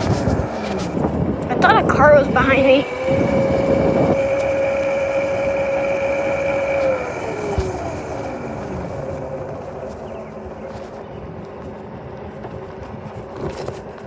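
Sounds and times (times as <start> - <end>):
motorcycle engine whine: 0.0 - 14.0
rushing wind: 0.0 - 14.0.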